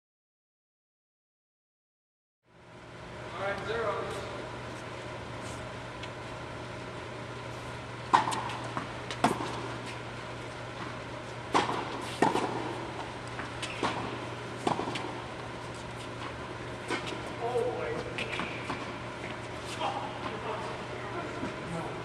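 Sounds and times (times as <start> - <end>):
steady low hum: 2.5 - 22.0.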